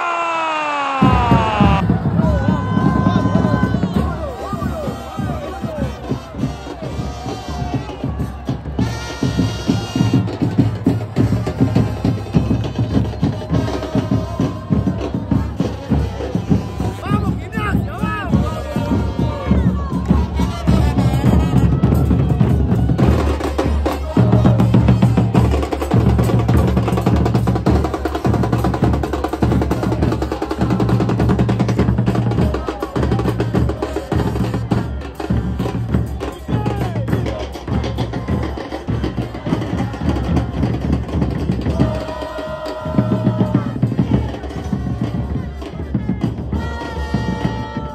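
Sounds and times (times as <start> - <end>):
bass drums pounding: 1.0 - 47.9
supporters singing a chant: 1.0 - 47.9.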